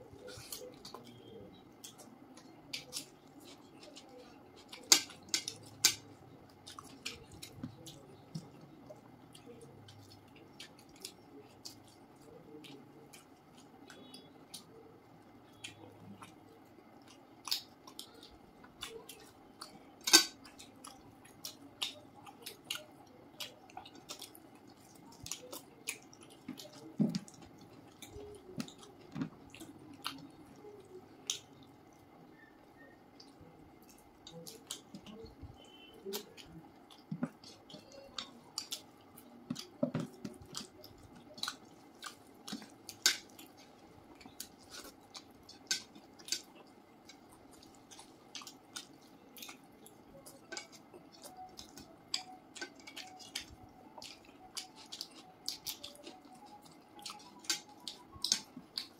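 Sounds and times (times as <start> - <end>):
people chewing food: 0.0 - 58.9.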